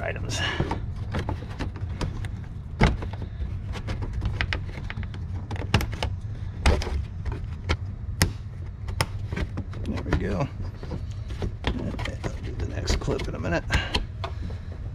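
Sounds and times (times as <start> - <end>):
steady low hum: 0.0 - 14.9
plastic clicks and knocks: 0.6 - 14.6.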